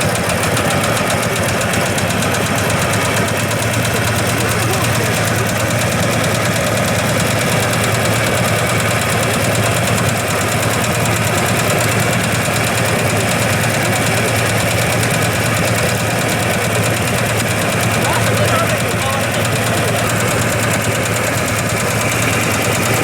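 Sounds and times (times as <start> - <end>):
tractor diesel engine knocking: 0.0 - 23.0.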